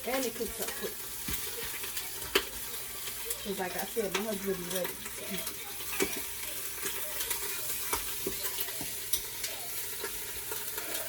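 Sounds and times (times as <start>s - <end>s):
crackles and pops: 0.0s - 11.0s
meat sizzling in oil: 0.0s - 11.0s.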